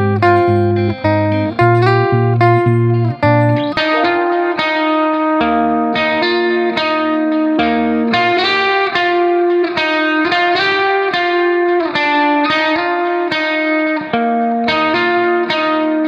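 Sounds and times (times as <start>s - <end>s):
picked guitar melody: 0.0s - 16.0s.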